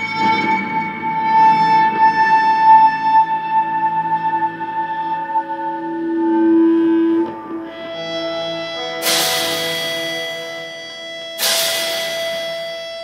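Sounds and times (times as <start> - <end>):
band playing ambient drone: 0.0 - 13.0.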